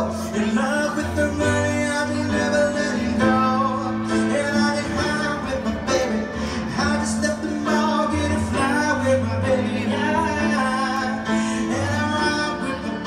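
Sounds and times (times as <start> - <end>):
person singing: 0.0 - 13.0
piano accompaniment: 0.0 - 13.0.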